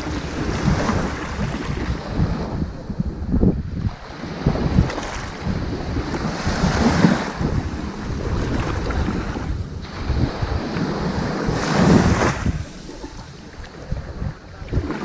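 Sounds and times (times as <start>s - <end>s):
surf surges: 0.0s - 15.0s
waves washing onto beach: 0.0s - 15.0s.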